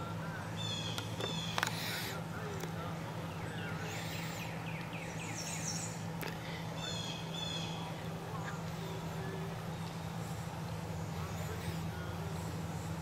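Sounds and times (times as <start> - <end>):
birds chirping and trilling: 0.0 - 13.0
steady low hum: 0.0 - 13.0.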